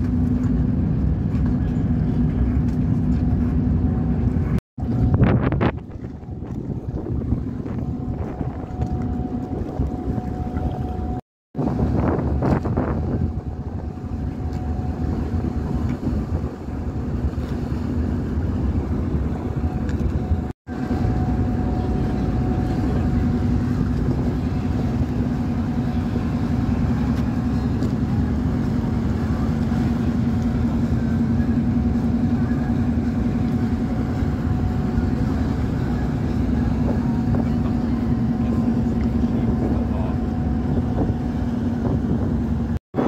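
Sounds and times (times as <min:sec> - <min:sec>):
low drone of ship engines: 0:00.0 - 0:43.0
water churning along hull: 0:00.0 - 0:43.0.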